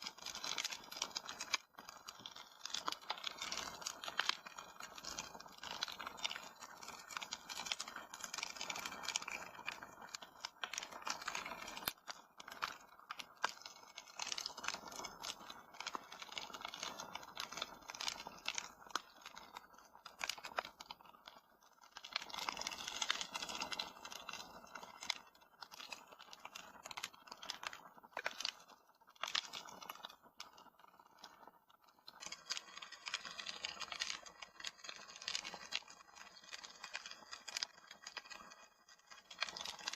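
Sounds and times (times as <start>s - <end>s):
sharp pops and snaps: 0.0s - 39.9s
wood fire crackling: 0.1s - 39.9s.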